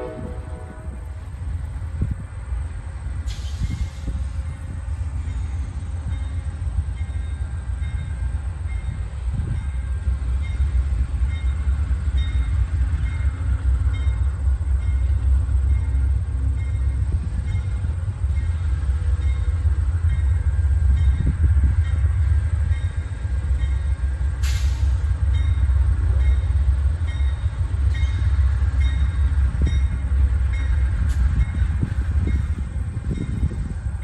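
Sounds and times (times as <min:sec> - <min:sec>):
diesel locomotive engine rumble: 0:00.0 - 0:34.0.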